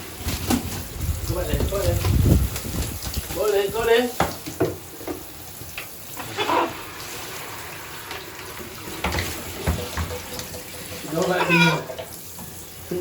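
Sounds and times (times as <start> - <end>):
running water from a tap: 0.0 - 13.0.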